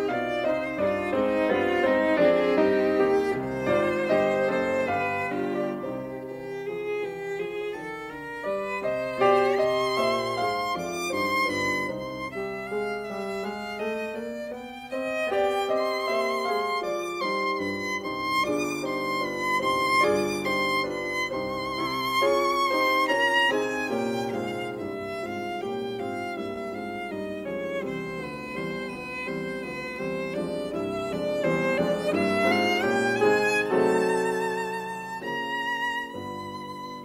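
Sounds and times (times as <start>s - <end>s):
musical accompaniment: 0.0s - 37.0s
violin melody: 0.0s - 37.0s.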